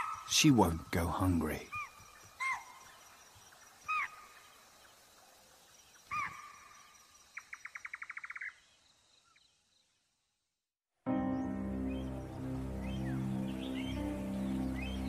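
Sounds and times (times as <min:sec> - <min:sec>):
night bird calling: 0:00.0 - 0:10.0, 0:11.3 - 0:15.0.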